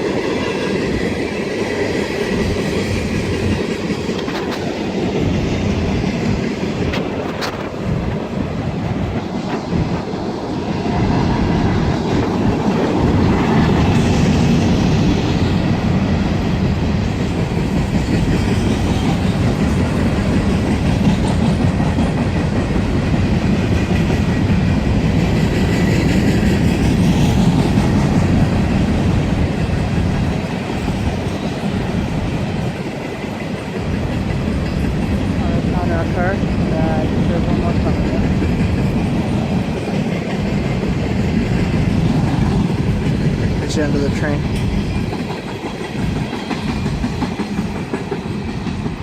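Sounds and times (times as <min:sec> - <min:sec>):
train wheels clickety-clack on rails: 0:00.0 - 0:49.0.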